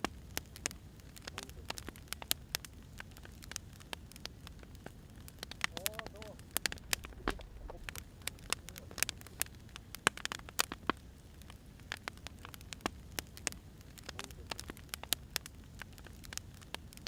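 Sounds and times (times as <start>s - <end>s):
firewood crackling and popping: 0.0s - 17.0s.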